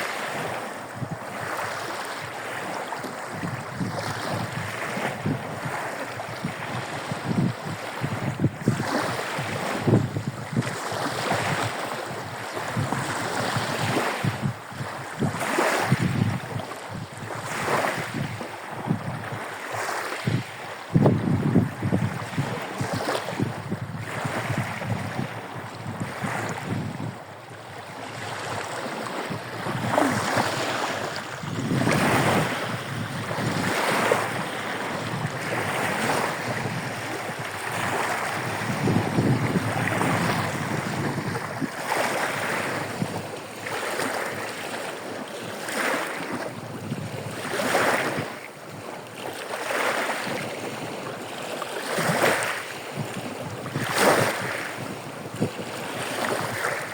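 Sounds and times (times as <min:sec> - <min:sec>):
small waves breaking on shore: 0:00.0 - 0:56.9
wind buffeting microphone: 0:00.1 - 0:44.8, 0:45.5 - 0:49.0, 0:51.9 - 0:56.9.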